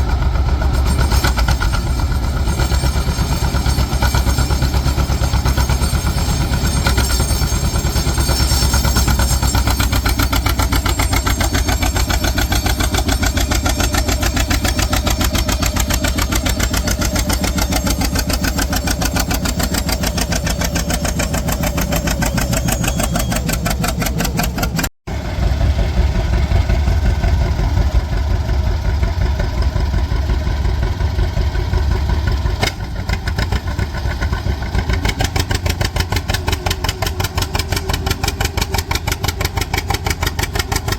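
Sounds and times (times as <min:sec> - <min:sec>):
tractor engine running hard: 0:00.0 - 0:40.9.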